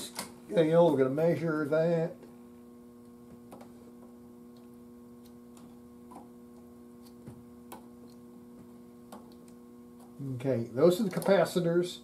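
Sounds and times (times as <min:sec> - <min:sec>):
faint mains hum: 0:00.0 - 0:12.0.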